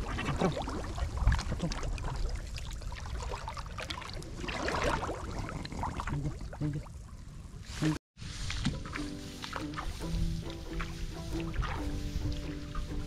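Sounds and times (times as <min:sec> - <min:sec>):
water splashing and dripping: 0:00.0 - 0:07.0, 0:08.3 - 0:13.0.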